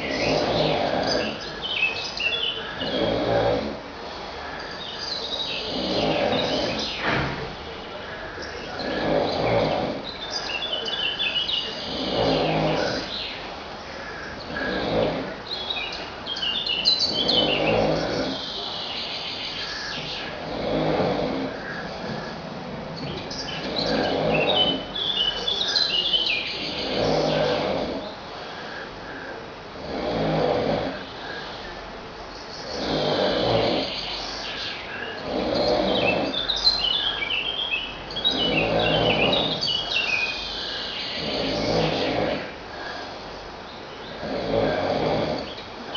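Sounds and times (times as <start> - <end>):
man snoring heavily: 0.0 - 4.8, 5.5 - 15.7, 16.8 - 18.6, 19.6 - 31.7, 32.6 - 34.0, 34.9 - 37.3, 38.1 - 43.3, 44.1 - 45.6
birds chirping: 0.0 - 45.9.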